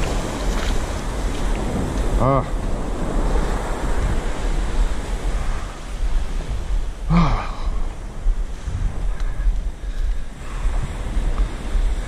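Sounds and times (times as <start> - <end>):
surf washing on beach: 0.0 - 12.0
wind on microphone: 0.0 - 12.0.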